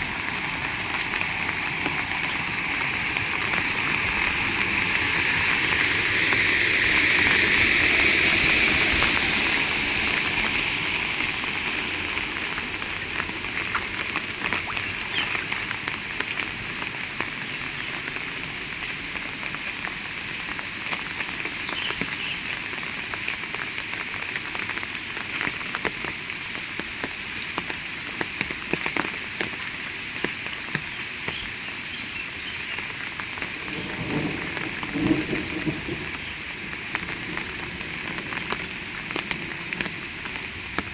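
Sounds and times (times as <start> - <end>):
heavy rain pouring: 0.0 - 40.9
raindrops pattering close by: 0.0 - 40.9.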